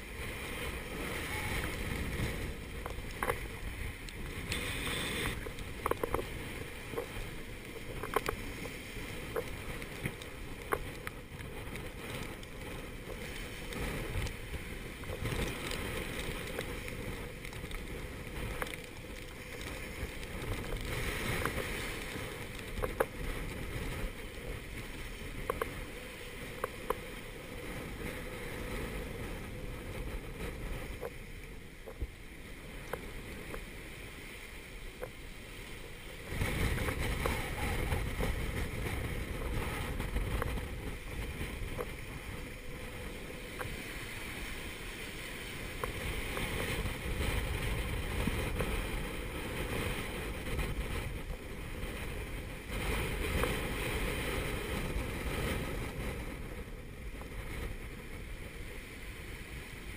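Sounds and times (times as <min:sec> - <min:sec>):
wind and seas rushing: 0:00.0 - 0:59.9.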